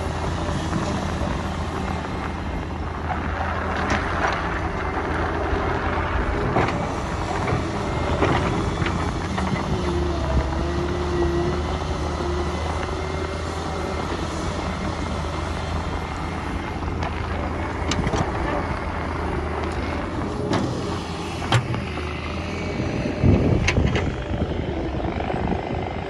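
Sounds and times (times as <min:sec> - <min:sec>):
excavator engine drone: 0:00.0 - 0:26.0
hydraulic whine: 0:00.0 - 0:26.0.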